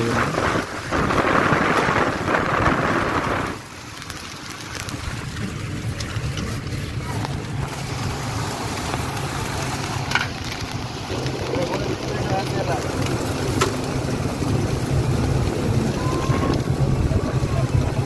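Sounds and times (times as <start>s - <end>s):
road noise: 0.0s - 18.0s
vehicle engine hum: 0.0s - 18.0s
wind and heavy rain rushing: 0.0s - 18.0s.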